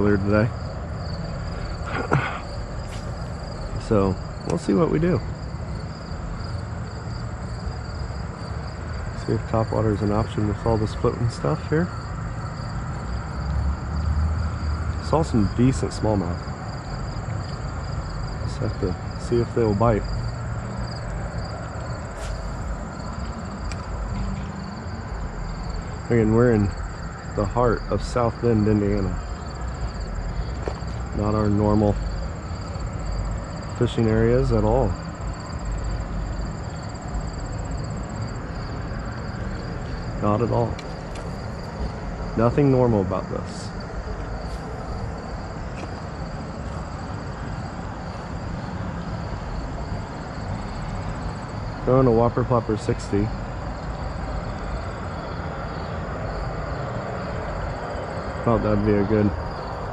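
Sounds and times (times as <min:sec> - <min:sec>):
crickets trilling: 0:00.0 - 0:59.9
insects chirping: 0:00.0 - 0:59.9.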